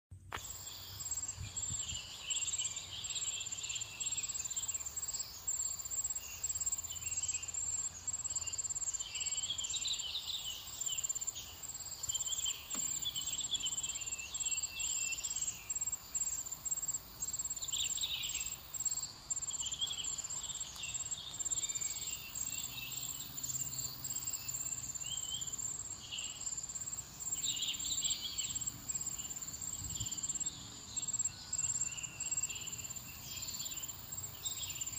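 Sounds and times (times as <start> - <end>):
insects chirping: 0.3 - 34.9
insects trilling: 0.3 - 34.9.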